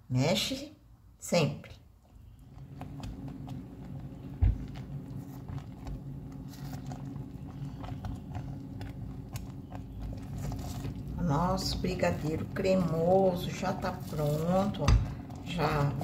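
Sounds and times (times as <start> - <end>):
low hum: 2.0 - 16.0
spatula stirring thick mixture: 2.0 - 16.0.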